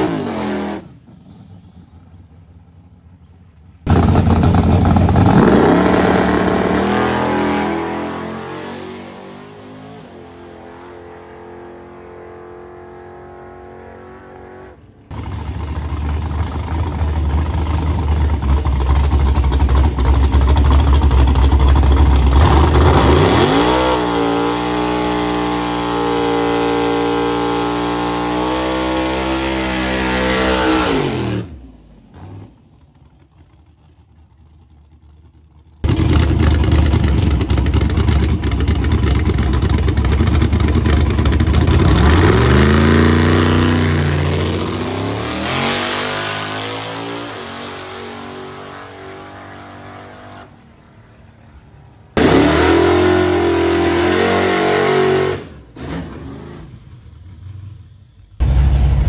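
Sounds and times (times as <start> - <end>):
car engine revving: 3.9 - 33.1, 35.8 - 50.5, 52.2 - 59.0.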